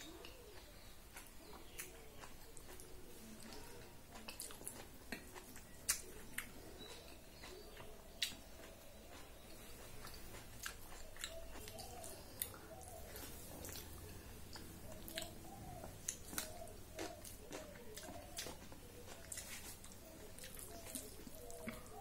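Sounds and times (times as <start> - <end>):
soft wet chewing: 0.0 - 22.0.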